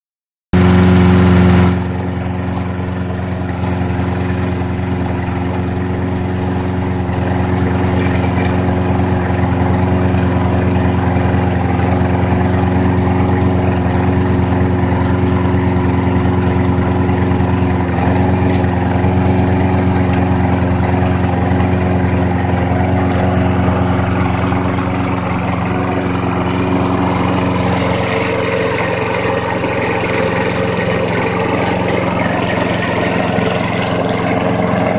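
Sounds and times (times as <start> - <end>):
lawn mower engine running: 0.5 - 34.9.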